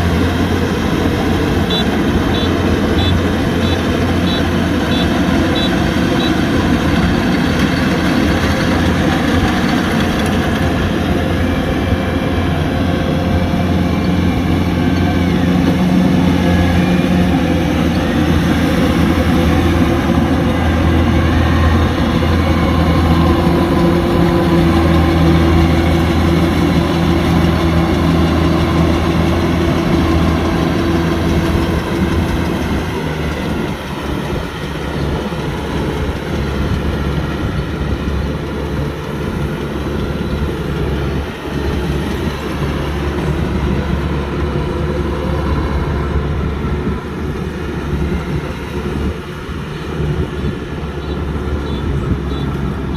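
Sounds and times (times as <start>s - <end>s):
combine harvester running: 0.0s - 52.9s.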